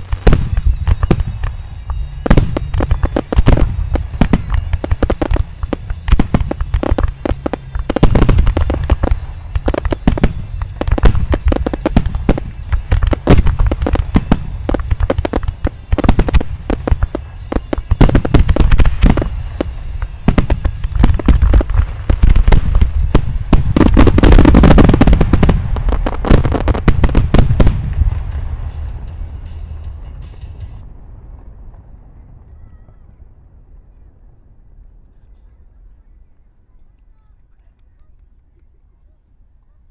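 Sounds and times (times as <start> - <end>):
fireworks booming and cracking: 0.0 - 34.7.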